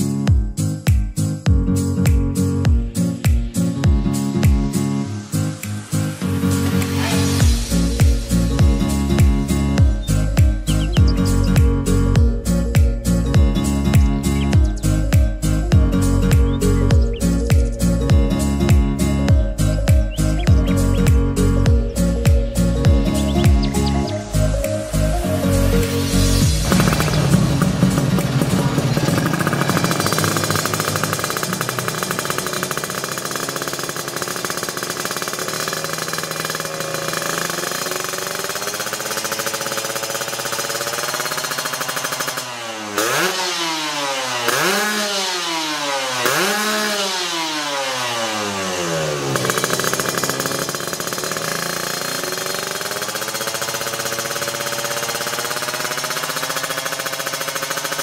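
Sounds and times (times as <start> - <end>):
motorcycle engine idling: 0.0 - 58.0
motorcycle engine revving: 0.0 - 58.0.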